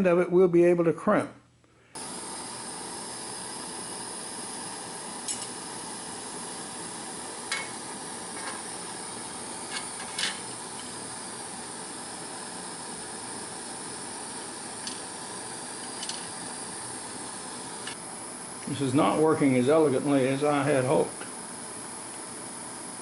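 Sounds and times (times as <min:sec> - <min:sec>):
flame hissing: 0:01.9 - 0:23.0.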